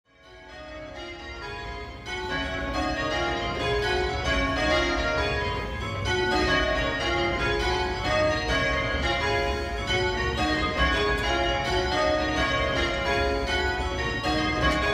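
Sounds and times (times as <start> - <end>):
church bells change ringing: 0.1 - 14.9.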